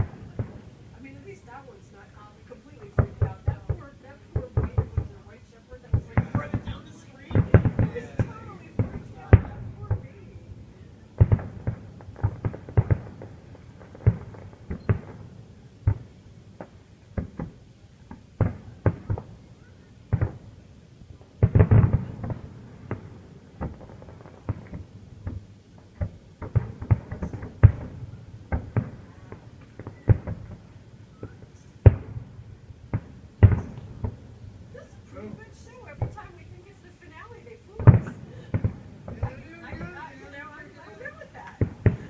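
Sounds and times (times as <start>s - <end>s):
fireworks bangs and booms: 0.0s - 42.0s.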